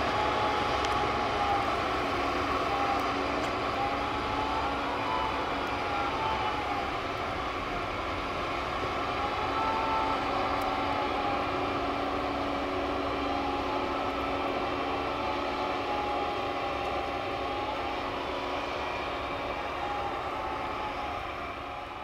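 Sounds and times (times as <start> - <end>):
snow groomer mechanical drone: 0.0 - 22.0.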